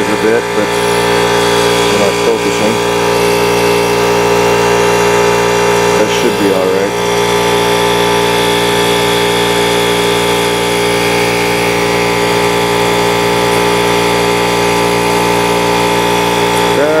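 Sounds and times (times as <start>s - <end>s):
air compressor motor drone: 0.0s - 17.0s.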